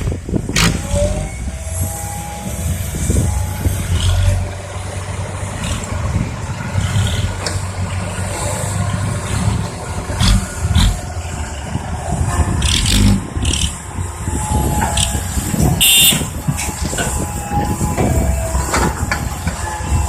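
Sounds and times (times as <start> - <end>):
diesel engine running: 0.0 - 20.0
hydraulic whine: 0.0 - 20.0.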